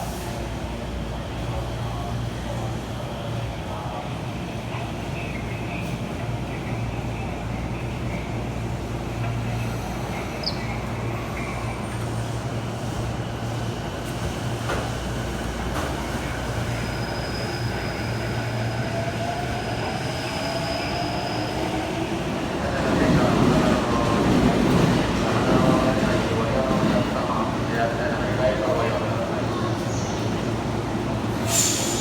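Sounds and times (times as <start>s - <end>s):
subway train rumbling: 0.0s - 32.0s.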